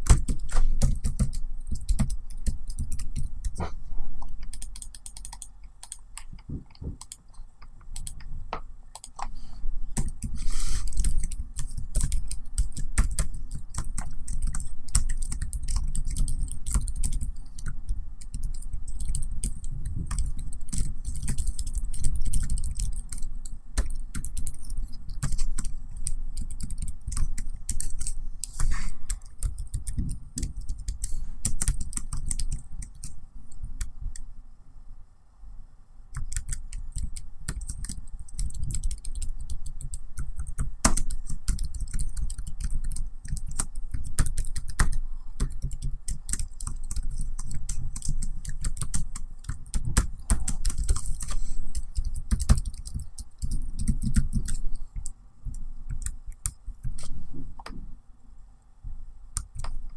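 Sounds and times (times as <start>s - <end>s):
laptop keyboard typing: 0.0s - 9.3s, 9.9s - 34.3s, 36.1s - 57.7s, 59.4s - 59.9s.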